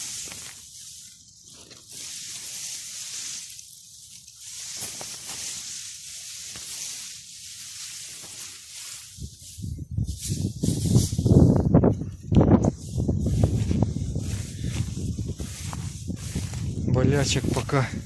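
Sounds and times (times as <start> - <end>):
barley rustling: 0.0 - 18.0.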